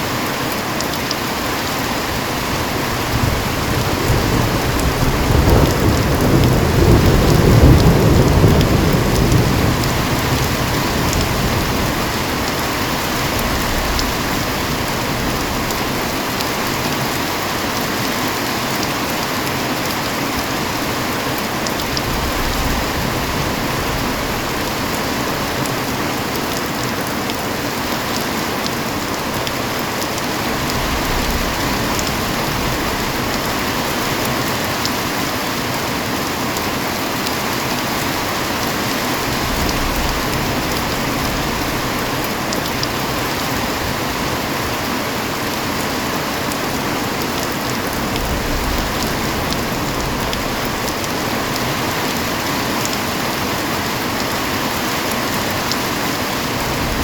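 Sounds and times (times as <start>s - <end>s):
heavy rain hissing: 0.0s - 57.0s
raindrops ticking on a surface: 0.1s - 57.0s.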